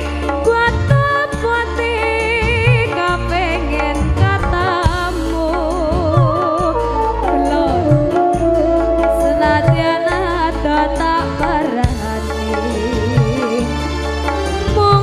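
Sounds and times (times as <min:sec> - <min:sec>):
person singing into microphone: 0:00.0 - 0:13.9
hand drums and band: 0:00.0 - 0:15.0.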